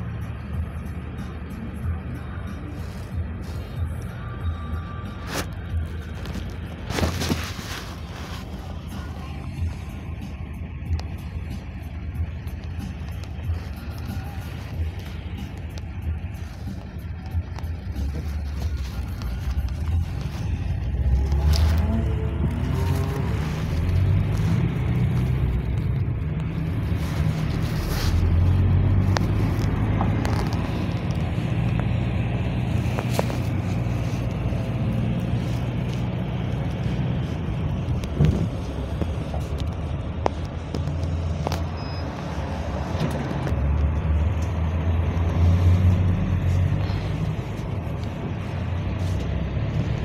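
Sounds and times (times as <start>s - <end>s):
minibus engine drone: 0.0s - 50.0s
road noise: 0.0s - 50.0s.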